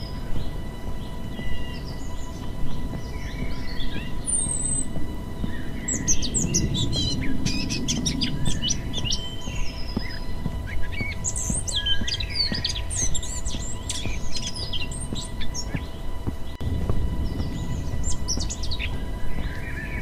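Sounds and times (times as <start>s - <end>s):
faint steady hum: 0.0s - 20.0s
outdoor background rumble: 0.0s - 20.0s
small birds chirping: 0.0s - 20.0s.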